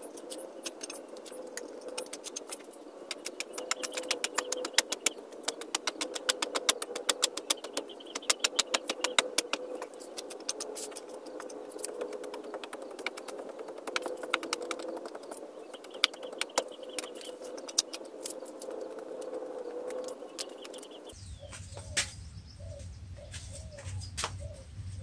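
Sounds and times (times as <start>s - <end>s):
sharp irregular clicks: 0.0s - 21.2s
steady hum: 0.0s - 25.0s.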